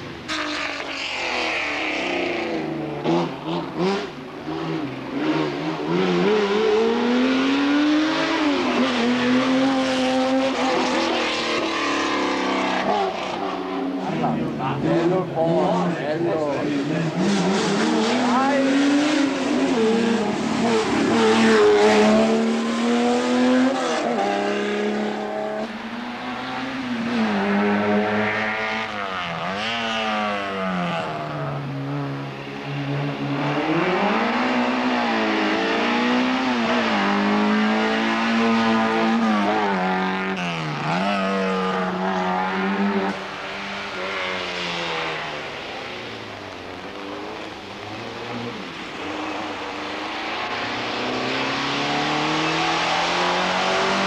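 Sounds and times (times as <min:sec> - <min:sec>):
race car engines accelerating: 0:00.0 - 0:54.0.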